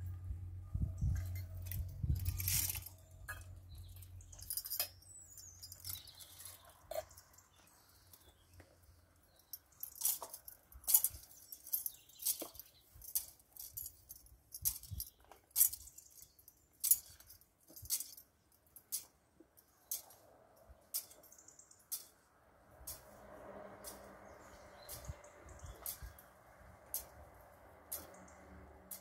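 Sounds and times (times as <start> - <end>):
metal censer chains clinking: 0.8 - 22.2, 23.8 - 29.0.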